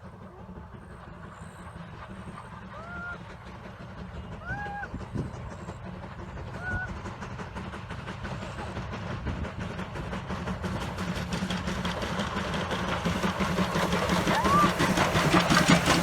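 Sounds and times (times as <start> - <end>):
steam train rumble and rail clatter: 0.0 - 16.0.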